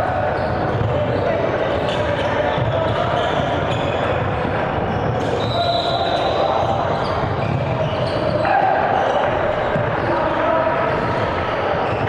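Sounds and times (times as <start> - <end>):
players' voices echoing: 0.0 - 12.0
sneakers squeaking: 0.1 - 12.0.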